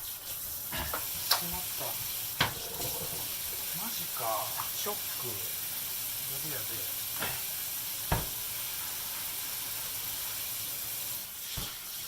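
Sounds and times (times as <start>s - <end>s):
food hissing on the stove: 0.0s - 12.0s.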